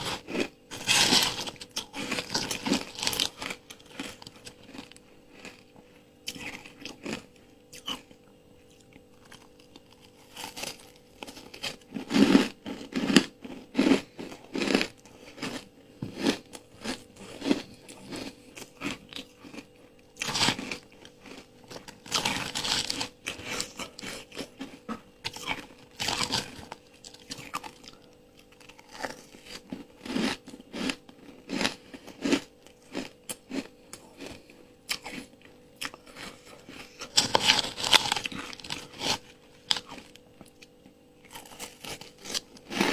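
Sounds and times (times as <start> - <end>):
ice crunching and chewing: 0.0 - 42.9.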